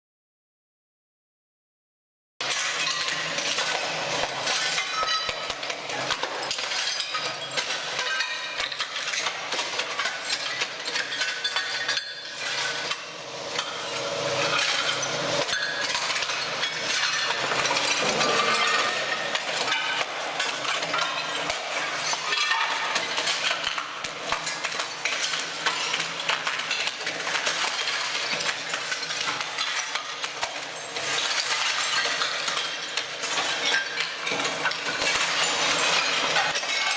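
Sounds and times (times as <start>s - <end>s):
floor stripper machine: 2.4s - 36.9s
tiles cracking and shards clinking: 2.4s - 36.9s.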